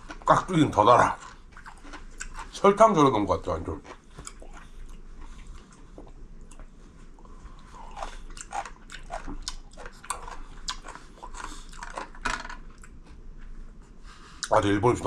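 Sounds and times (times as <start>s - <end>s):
person chewing crunchy food: 0.0s - 2.6s, 3.8s - 13.4s.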